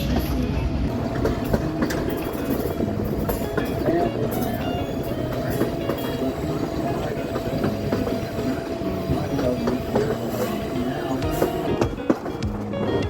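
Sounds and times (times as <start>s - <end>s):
train rumbling on rails: 0.0s - 13.0s
thin steady whine: 0.9s - 12.1s.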